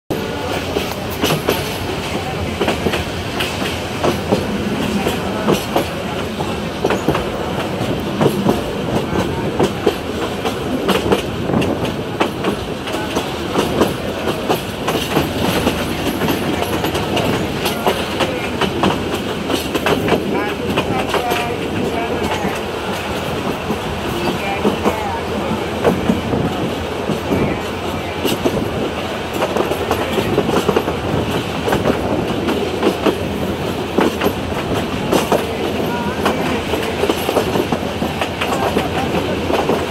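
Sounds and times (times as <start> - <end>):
train wheels clacking on rails: 0.1 - 39.9.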